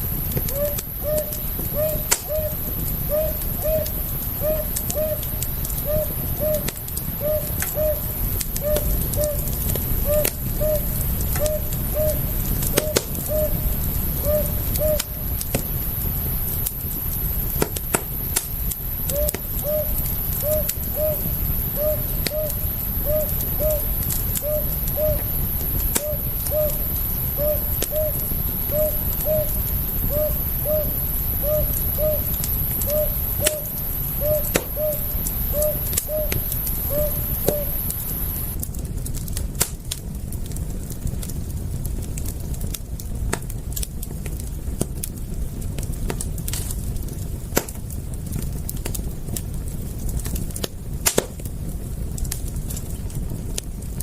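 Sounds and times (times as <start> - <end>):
campfire crackling and popping: 0.0 - 54.0
steady low rumble: 0.0 - 54.0.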